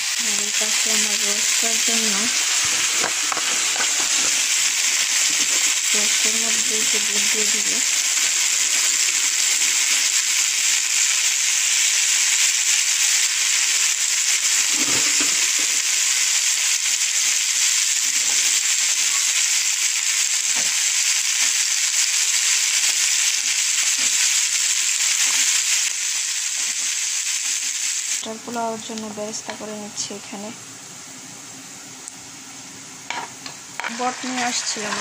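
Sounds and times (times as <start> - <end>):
chicken sizzling in oil: 0.0 - 30.5, 31.1 - 35.0.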